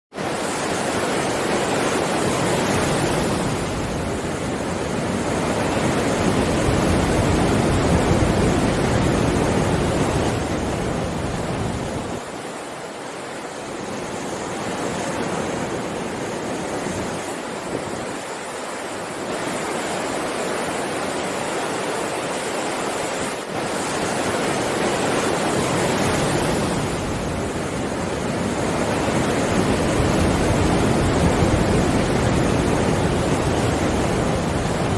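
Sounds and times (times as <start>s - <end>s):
ocean waves breaking: 0.1s - 34.9s.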